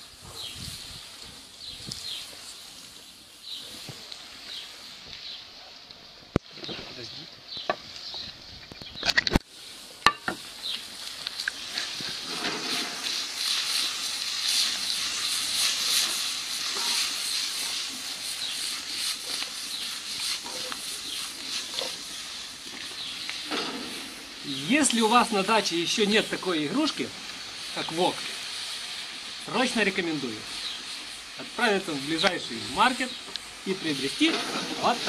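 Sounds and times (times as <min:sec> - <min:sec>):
food sizzling in wok: 0:00.0 - 0:08.5, 0:09.4 - 0:35.0.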